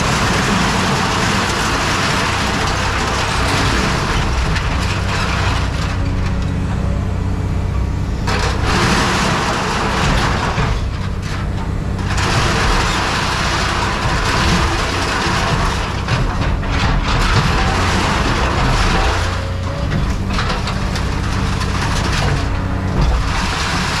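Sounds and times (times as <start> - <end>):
heavy machinery engine hum: 0.0 - 24.0
loud rushing grinding noise: 0.0 - 24.0.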